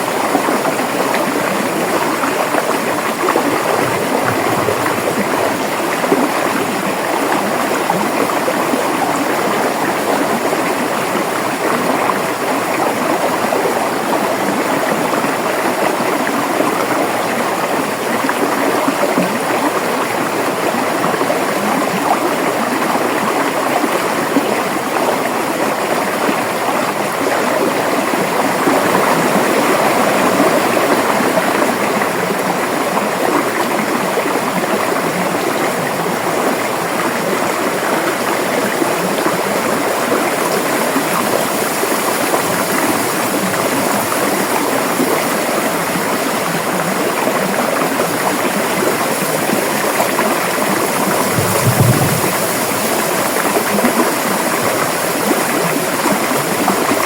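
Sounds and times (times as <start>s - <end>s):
river gurgling over rocks: 0.0s - 57.0s.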